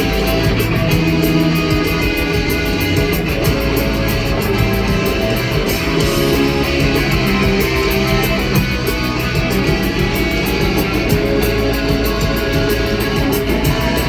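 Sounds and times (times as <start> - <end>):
drums fast beat: 0.0 - 14.0
electric guitars: 0.0 - 14.0.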